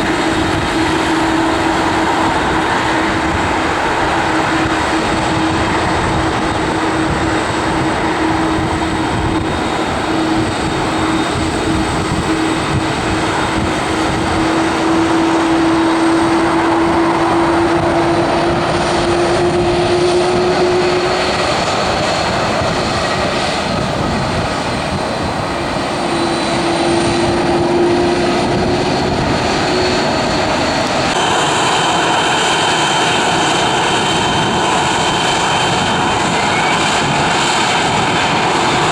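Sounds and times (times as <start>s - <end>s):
jet engine whine: 0.0s - 38.9s
jet engines running: 0.0s - 38.9s.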